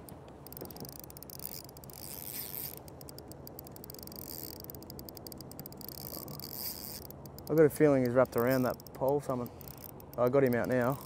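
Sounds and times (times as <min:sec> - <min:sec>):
fishing reel clicking: 0:00.0 - 0:11.0.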